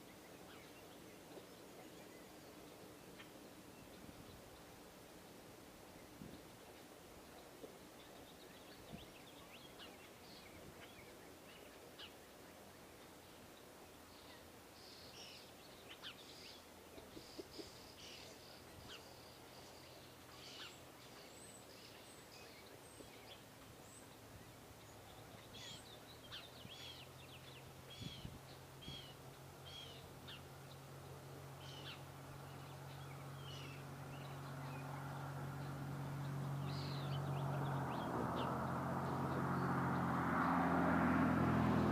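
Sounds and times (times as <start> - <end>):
small birds chirping: 0.0 - 5.0, 5.7 - 40.6
low engine hum: 0.0 - 41.9.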